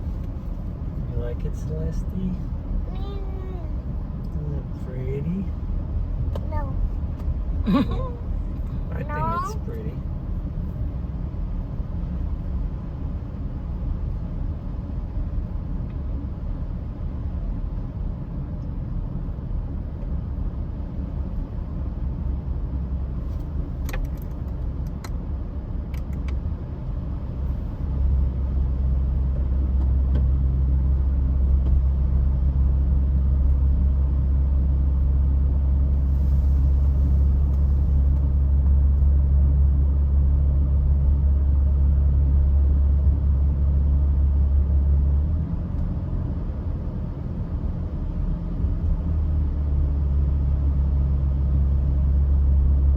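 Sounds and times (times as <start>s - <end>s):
car driving rumble: 0.0s - 52.9s.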